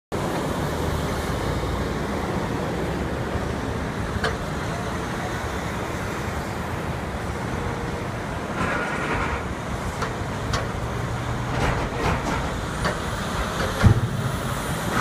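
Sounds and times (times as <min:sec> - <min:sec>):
highway traffic passing: 0:00.1 - 0:15.0.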